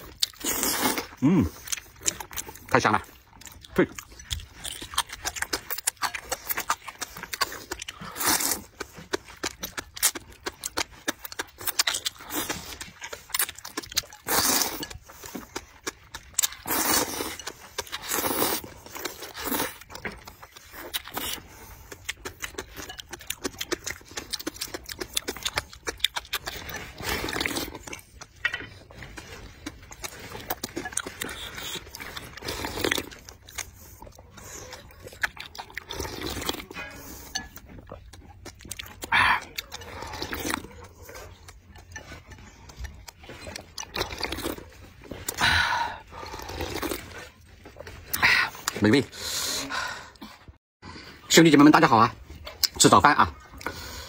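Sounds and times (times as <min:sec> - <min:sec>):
slurping noodles and broth: 0:00.0 - 0:02.5, 0:05.9 - 0:51.3
wet chewing smacks: 0:00.0 - 0:49.2.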